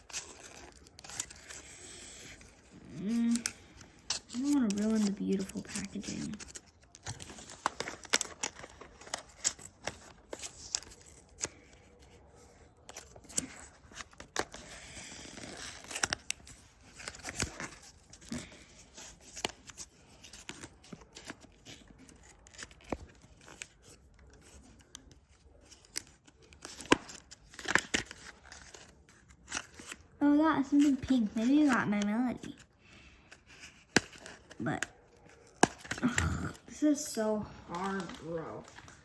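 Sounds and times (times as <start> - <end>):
packaging tearing: 0.0 - 31.8, 32.4 - 37.0
packaging clicks and crackles: 0.0 - 36.7, 37.7 - 39.0.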